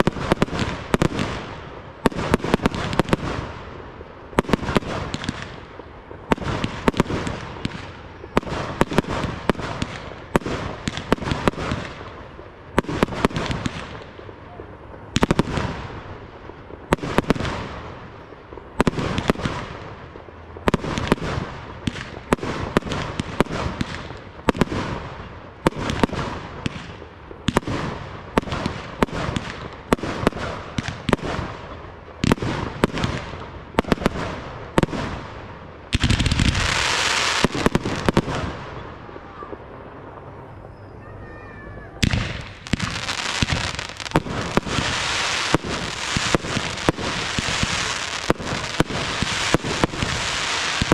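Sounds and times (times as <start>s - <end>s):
fireworks bursting with echo: 0.0s - 50.9s
loud continuous hiss: 0.0s - 50.9s.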